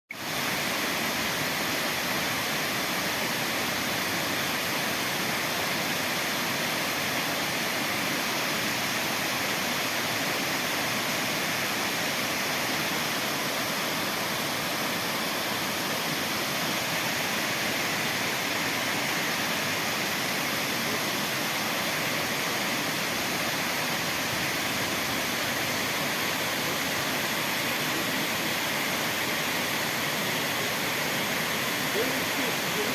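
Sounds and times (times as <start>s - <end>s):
waterfall rushing: 0.1s - 32.9s.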